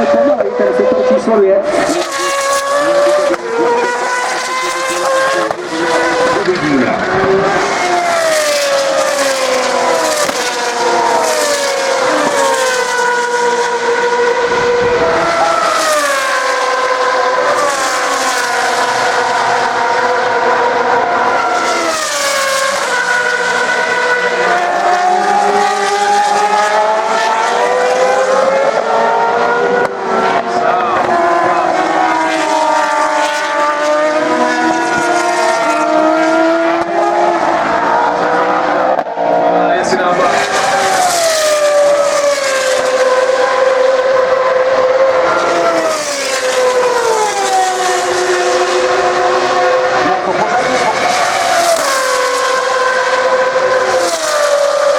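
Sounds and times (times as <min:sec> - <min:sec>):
racing car engines at high revs: 0:00.0 - 0:54.9.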